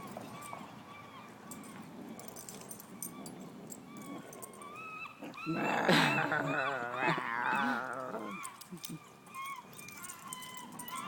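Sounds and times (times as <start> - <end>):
puppy whining growl: 1.5 - 11.0.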